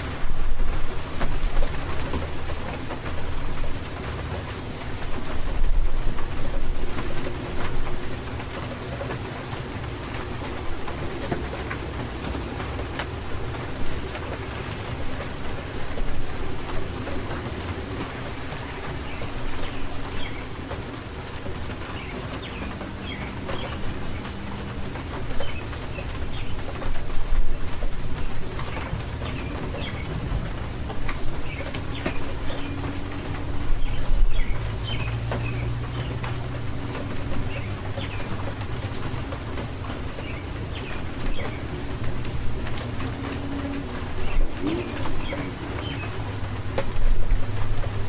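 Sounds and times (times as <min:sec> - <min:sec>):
birds chirping: 0:00.0 - 0:48.0
heavy rain: 0:00.0 - 0:48.0
low cooing calls: 0:04.4 - 0:48.0.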